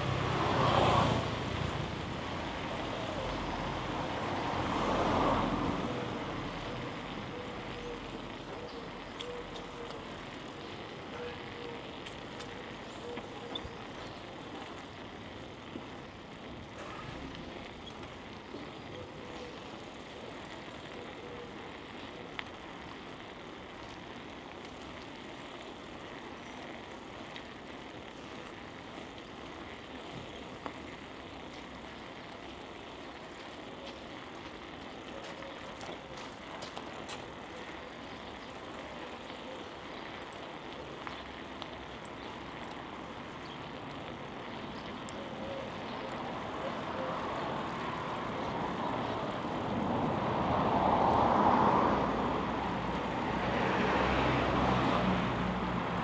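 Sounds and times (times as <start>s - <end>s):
bicycle tyres rolling: 0.0s - 56.0s.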